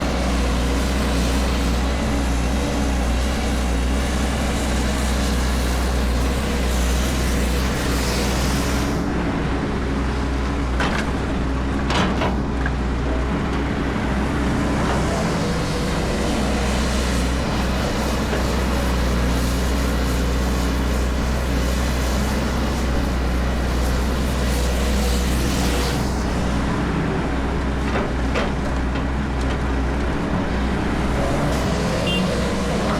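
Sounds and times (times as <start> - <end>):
heavy vehicle engine running: 0.0 - 32.9.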